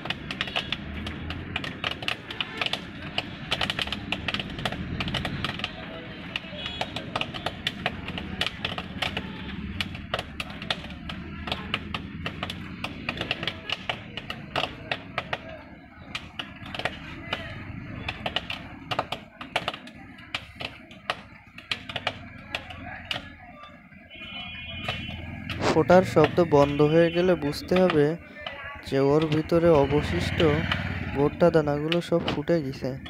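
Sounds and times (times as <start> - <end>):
popcorn popping in a pot: 0.0 - 33.0.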